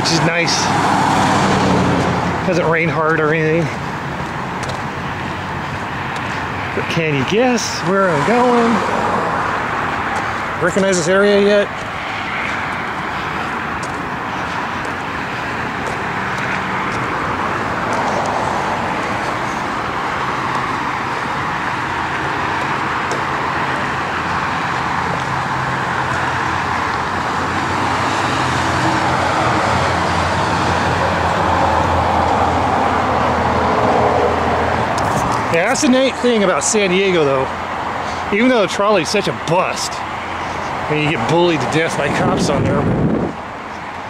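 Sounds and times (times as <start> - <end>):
traffic rushing: 0.0 - 44.0.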